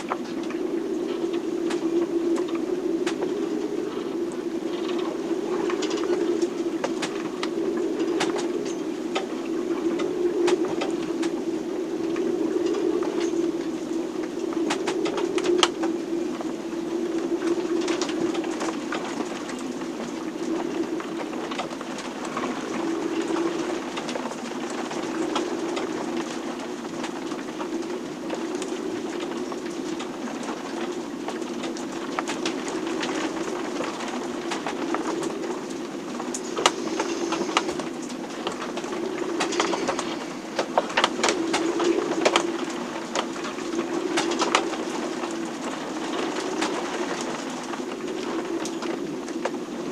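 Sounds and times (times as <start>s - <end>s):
low moaning storm drone: 0.0s - 49.9s.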